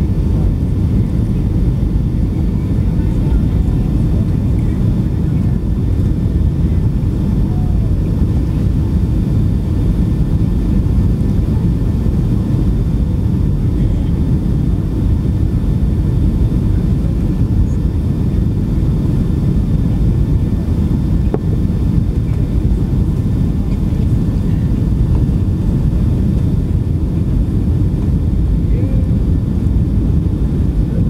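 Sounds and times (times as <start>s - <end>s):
jet engine cabin rumble: 0.0s - 31.0s.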